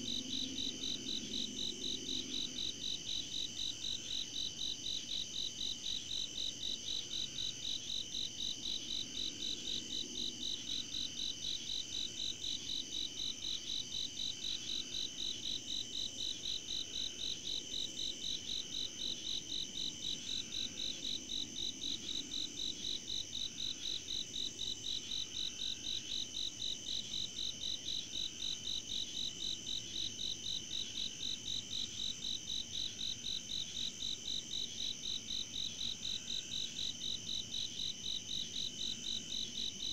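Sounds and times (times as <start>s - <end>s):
insects pulsing chirp: 0.0s - 39.9s.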